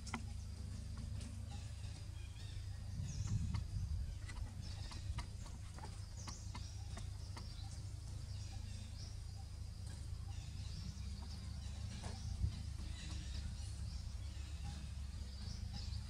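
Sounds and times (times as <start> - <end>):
birds chirping: 0.0 - 16.0
insects: 0.0 - 16.0
low rumble: 0.0 - 16.0.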